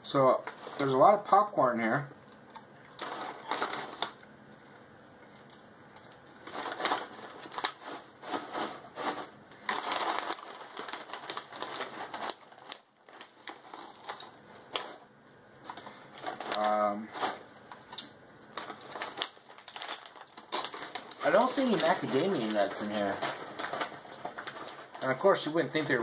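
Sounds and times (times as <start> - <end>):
snack bag crinkling: 2.5 - 4.3, 5.4 - 26.0.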